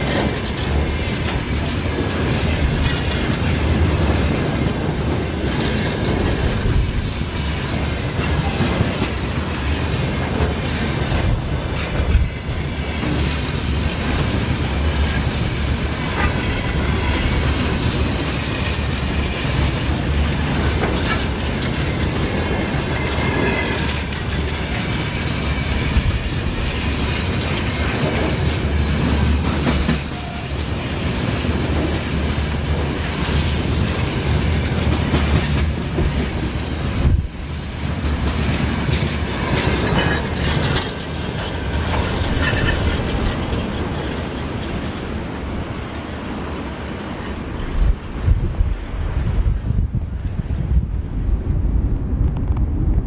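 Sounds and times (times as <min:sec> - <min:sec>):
train wheels clattering over rails: 0:00.0 - 0:53.0.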